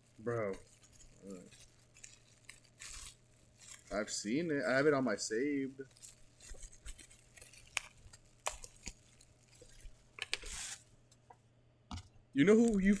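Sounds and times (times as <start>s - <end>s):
packaging rustle: 0.0s - 11.0s, 12.6s - 13.0s.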